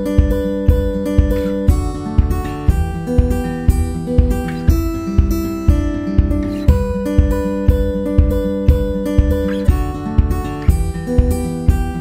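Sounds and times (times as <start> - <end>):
acoustic guitar strumming over beat: 0.0 - 12.0.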